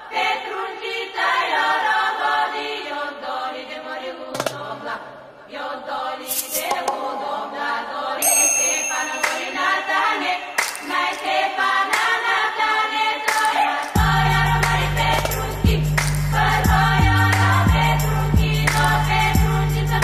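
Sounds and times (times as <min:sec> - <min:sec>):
choir singing chant-like: 0:00.0 - 0:20.0.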